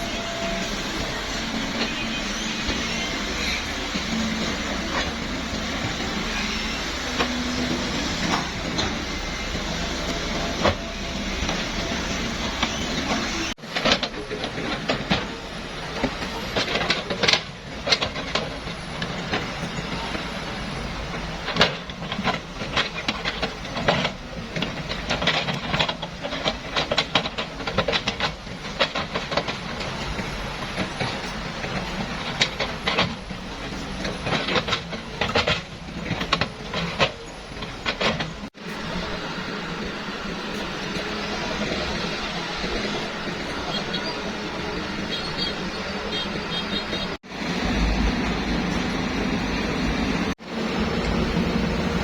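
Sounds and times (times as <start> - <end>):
construction machinery rumbling: 0.0 - 52.0.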